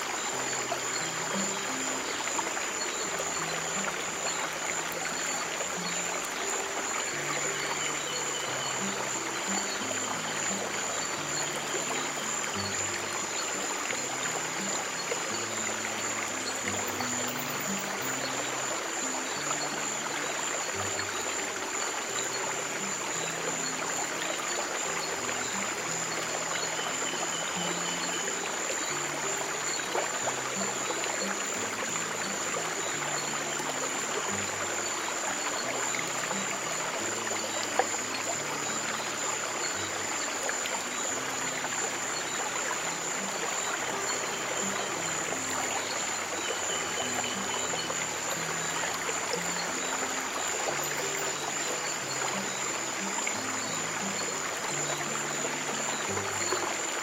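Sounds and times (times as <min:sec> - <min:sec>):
soft low music notes: 0:00.0 - 0:57.0
stream of running water: 0:00.0 - 0:57.0.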